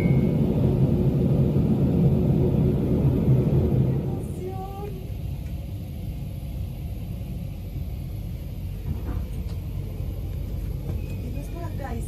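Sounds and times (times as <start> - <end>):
train running low rumble: 0.0 - 12.0.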